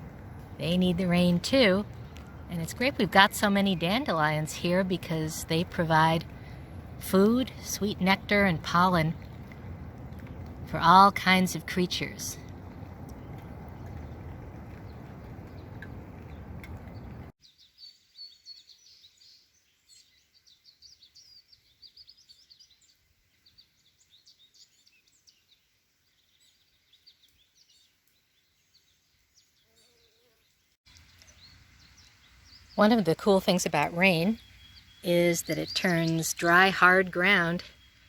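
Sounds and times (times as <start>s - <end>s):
birds chirping: 0.5s - 38.0s.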